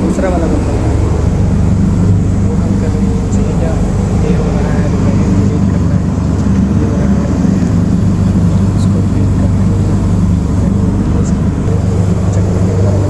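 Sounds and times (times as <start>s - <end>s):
machine droning low: 0.0s - 13.0s.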